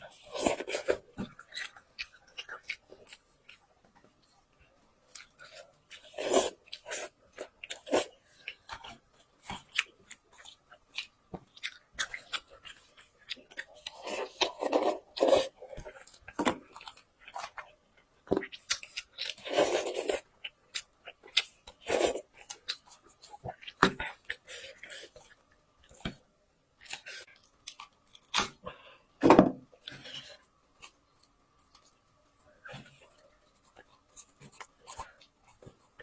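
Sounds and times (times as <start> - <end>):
person chewing food: 0.0 - 29.0, 29.6 - 36.0.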